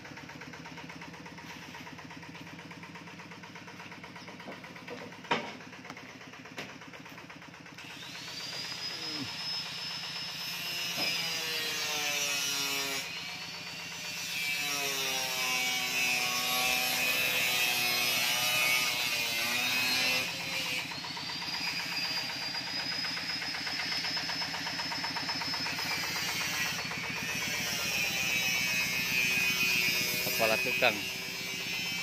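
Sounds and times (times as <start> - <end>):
power tool motor whine: 0.7 - 32.0.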